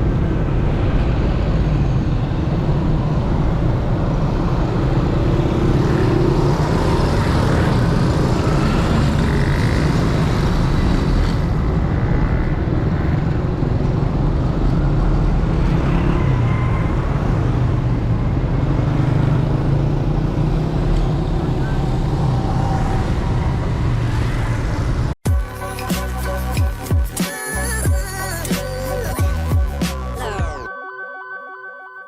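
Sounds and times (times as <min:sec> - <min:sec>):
road traffic rumble: 0:00.0 - 0:30.4.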